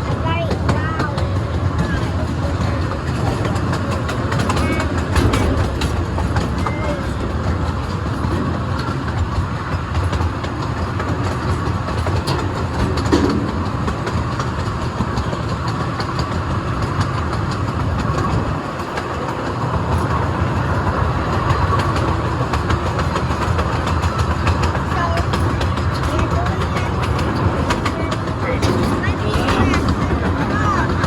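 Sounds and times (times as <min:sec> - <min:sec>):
train rumbling on track: 0:00.0 - 0:31.0
wheels clicking over rails: 0:00.0 - 0:31.0.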